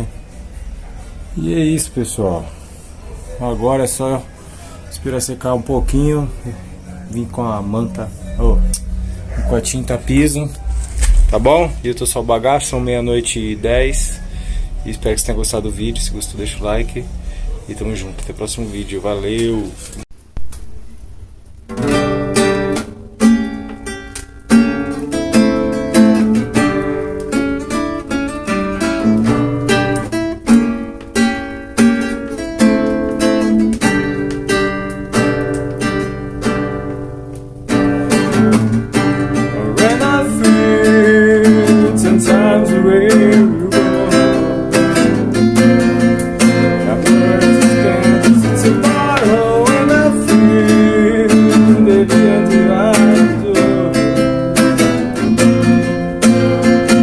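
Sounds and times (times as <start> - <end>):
acoustic guitar playing: 0.0 - 20.0, 20.7 - 57.0.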